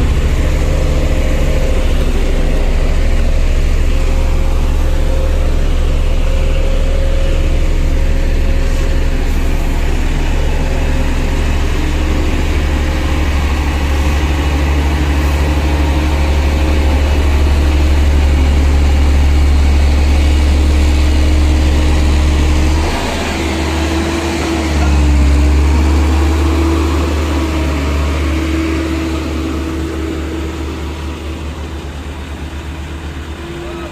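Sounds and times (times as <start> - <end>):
deep steady hum: 0.0 - 33.9
road roller diesel engine: 0.0 - 33.9.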